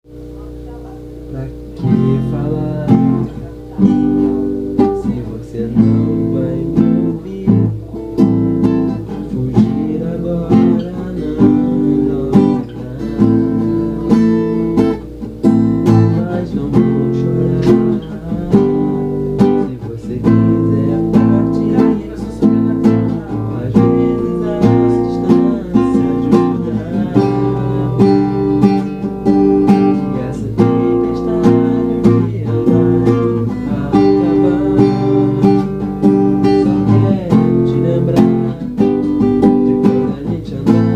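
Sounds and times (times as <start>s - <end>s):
acoustic guitar strumming chords: 0.1s - 40.9s.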